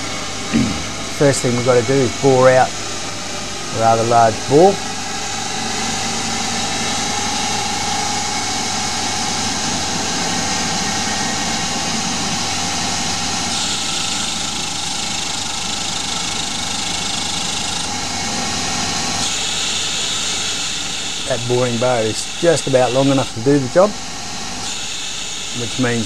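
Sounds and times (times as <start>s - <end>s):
lathe motor whine and hum: 0.0s - 26.0s.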